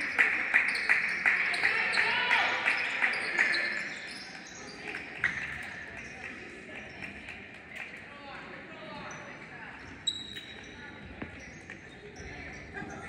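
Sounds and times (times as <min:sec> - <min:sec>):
chatter of voices: 0:00.0 - 0:13.0.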